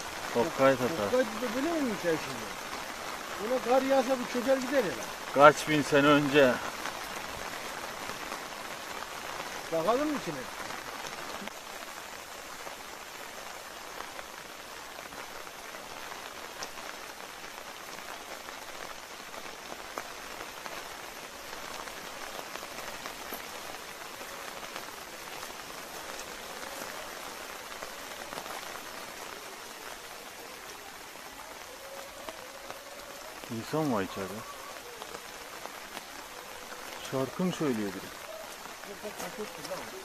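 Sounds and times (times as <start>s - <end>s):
heavy rain hiss: 0.0s - 40.0s.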